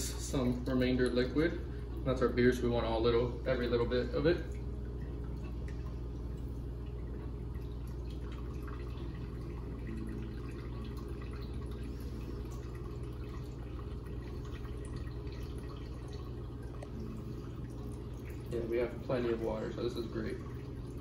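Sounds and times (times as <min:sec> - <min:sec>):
steady low hum: 0:00.0 - 0:21.0
liquid dripping into pot: 0:03.5 - 0:21.0.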